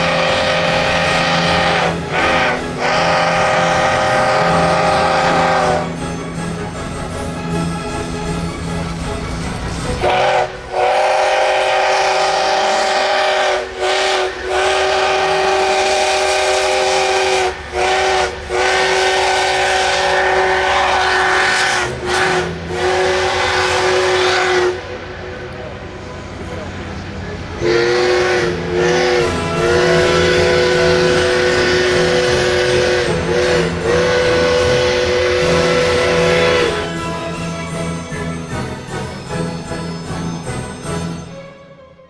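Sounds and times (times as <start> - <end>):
steam locomotive whistle: 0.0 - 8.7, 9.9 - 41.5
steam hissing: 0.0 - 41.2.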